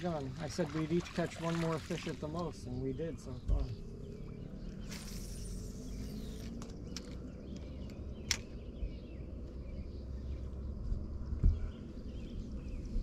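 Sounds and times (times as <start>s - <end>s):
insects: 0.0s - 11.9s
faint birds: 0.0s - 13.0s
steady low rumble: 0.0s - 13.0s.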